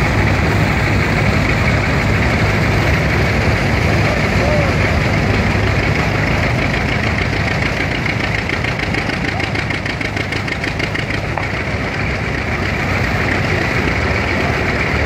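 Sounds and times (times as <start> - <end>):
engine running: 0.0 - 15.0
fast rhythmic chatter: 0.0 - 15.0
threshing machine running: 0.0 - 15.0.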